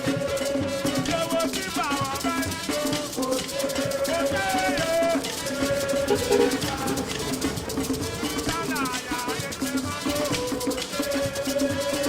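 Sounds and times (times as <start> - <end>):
fast shaker and drum beat: 0.0 - 12.0.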